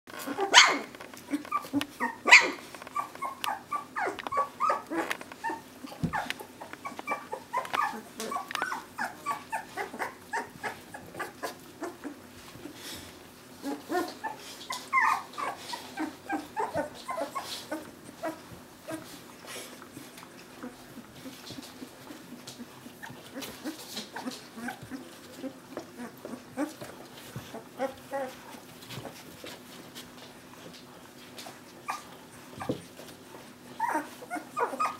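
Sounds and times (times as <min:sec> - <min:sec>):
puppies whimpering and squeaking: 0:00.2 - 0:34.9.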